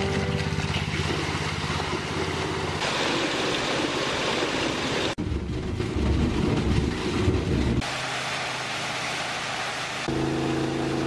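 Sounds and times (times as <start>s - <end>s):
water gushing from hose: 0.0s - 11.0s.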